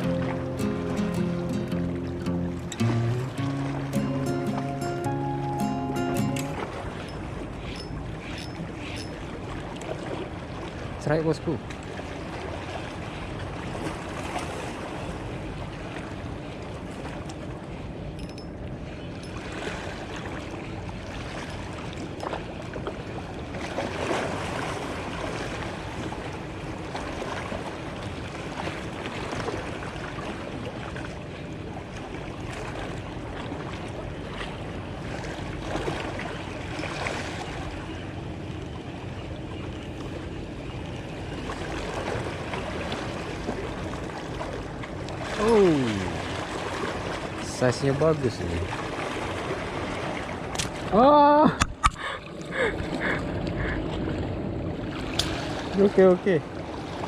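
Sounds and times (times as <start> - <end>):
water lapping against a boat: 0.0 - 57.0.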